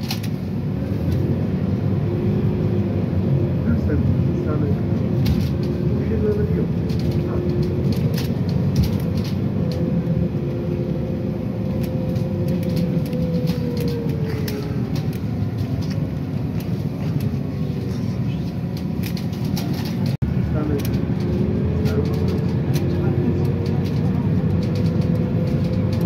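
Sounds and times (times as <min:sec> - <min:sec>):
bus engine rumble: 0:00.0 - 0:26.0
bodywork rattles and clicks: 0:03.8 - 0:26.0.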